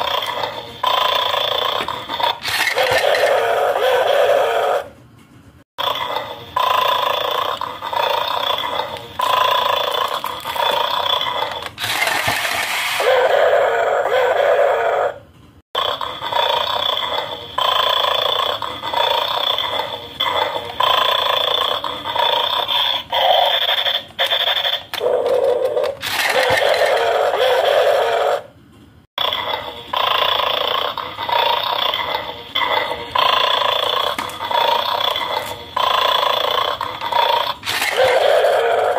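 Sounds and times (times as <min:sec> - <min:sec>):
electronic dog growling and barking: 0:00.0 - 0:05.0, 0:05.8 - 0:15.2, 0:15.8 - 0:28.6, 0:29.2 - 0:38.9.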